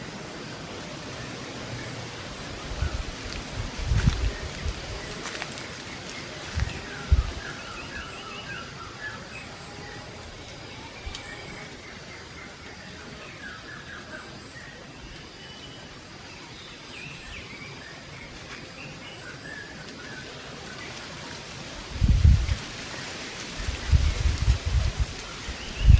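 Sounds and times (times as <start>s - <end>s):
outdoor background hiss: 0.0s - 25.9s
songbirds chirping: 0.0s - 25.9s.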